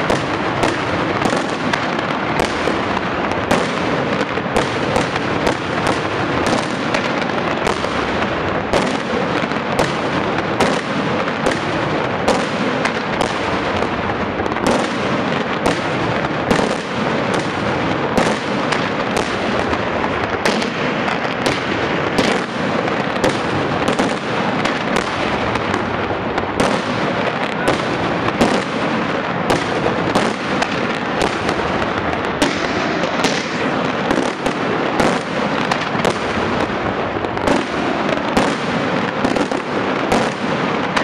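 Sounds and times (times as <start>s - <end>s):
firecrackers crackling: 0.0s - 41.0s
sharp firework bangs: 0.0s - 41.0s.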